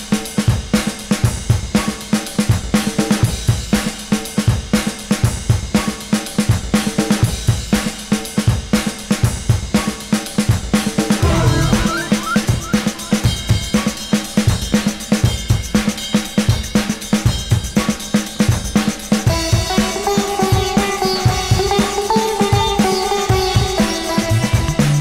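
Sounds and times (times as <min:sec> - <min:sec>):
drum kit groove: 0:00.0 - 0:25.0.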